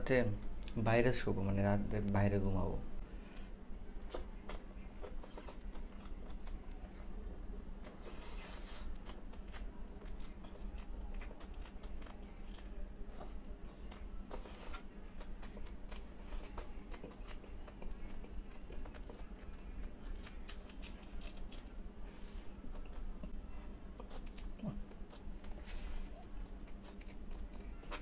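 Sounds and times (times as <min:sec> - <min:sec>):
mouth chewing: 0:03.8 - 0:07.1, 0:07.8 - 0:28.0.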